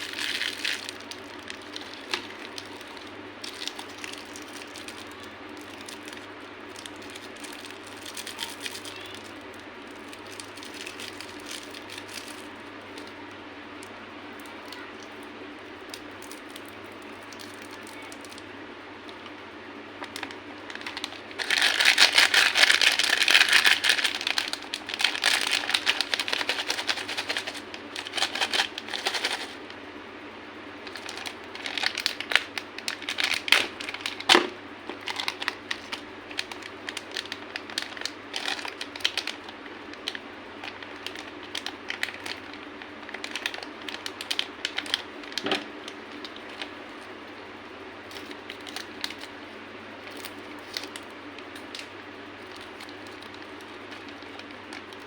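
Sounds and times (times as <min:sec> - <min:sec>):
candy crunching: 0:00.0 - 0:29.8, 0:30.8 - 0:47.2, 0:48.0 - 0:55.0
steady low hum: 0:00.0 - 0:55.0.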